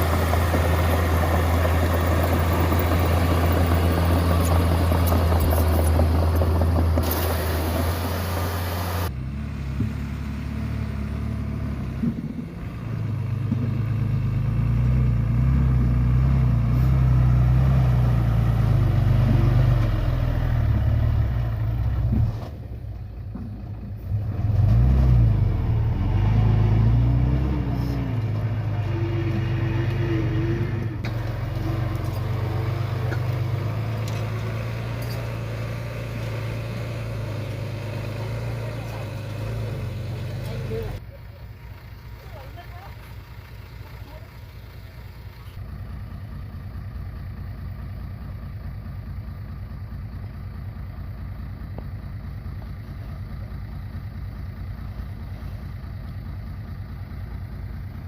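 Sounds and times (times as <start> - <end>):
heavy diesel engines working: 0.0 - 58.0.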